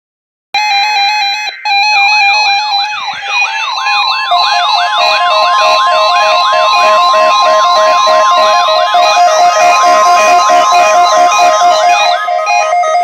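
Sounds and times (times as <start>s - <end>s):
fast two-pitch beeping: 0.6s - 13.0s
siren-like sweep: 0.6s - 13.0s
steady alert tone: 0.6s - 13.0s.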